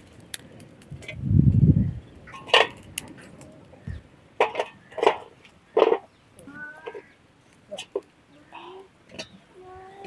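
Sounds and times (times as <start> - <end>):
firewood and pot clinking: 0.0 - 9.6.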